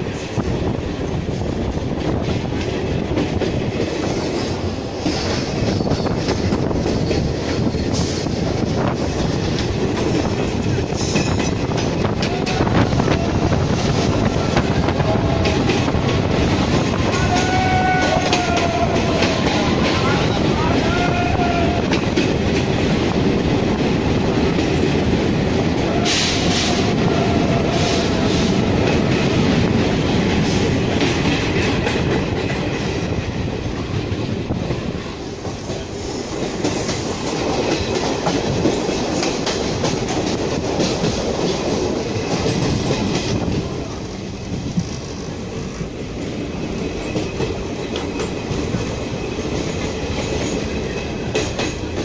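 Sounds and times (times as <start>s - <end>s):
clickety-clack over rail joints: 0.0s - 52.0s
train wheels rumbling on rails: 0.0s - 52.0s.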